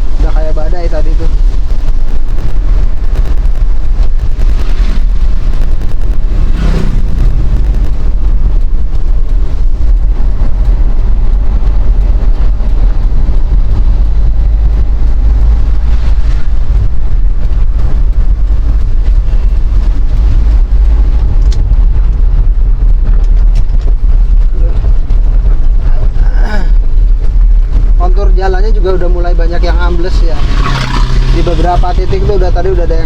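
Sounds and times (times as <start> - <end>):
vehicle moving on road: 0.0 - 33.0
wind buffeting microphone: 0.0 - 33.0.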